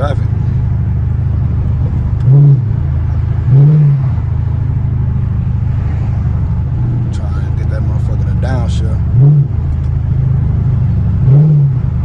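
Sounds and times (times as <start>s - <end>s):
car engine cruising: 0.0s - 12.0s
engine throttle blips: 0.0s - 12.0s.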